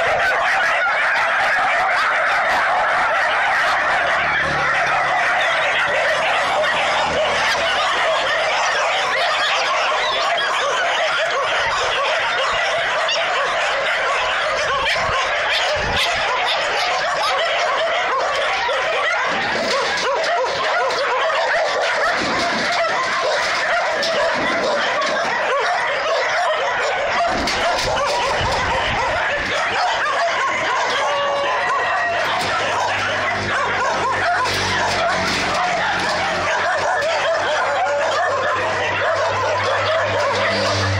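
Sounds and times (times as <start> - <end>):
dogs barking and yelping: 0.0 - 40.9.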